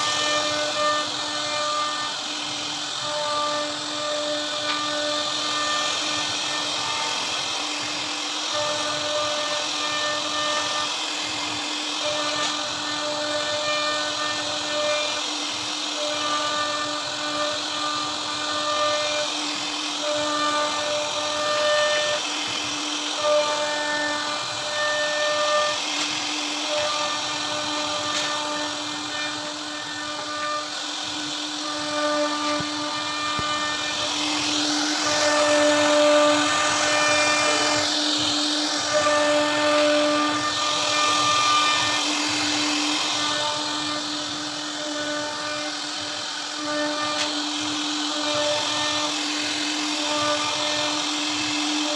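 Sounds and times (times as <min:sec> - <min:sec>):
cnc router spindle whine: 0:00.0 - 0:51.9.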